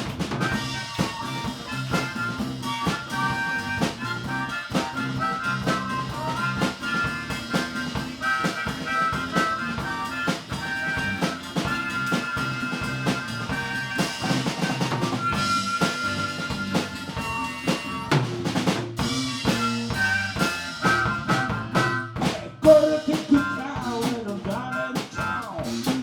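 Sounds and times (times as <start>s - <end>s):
bass line: 0.0s - 26.0s
drum kit beat: 0.0s - 26.0s
lead instrument holding notes: 0.4s - 18.4s, 19.0s - 23.8s.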